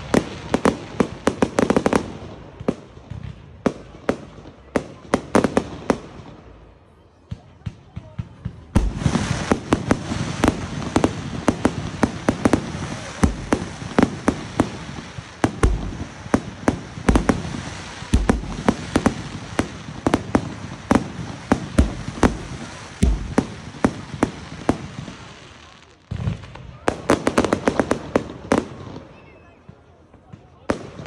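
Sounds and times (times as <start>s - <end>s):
fireworks bangs: 0.0s - 6.6s, 7.3s - 31.0s
crackling hiss of fireworks: 0.0s - 31.0s.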